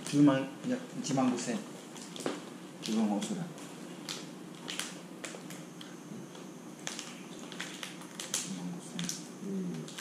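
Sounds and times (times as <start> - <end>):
plastic wrapper crinkling: 1.1 - 6.0, 6.8 - 10.0.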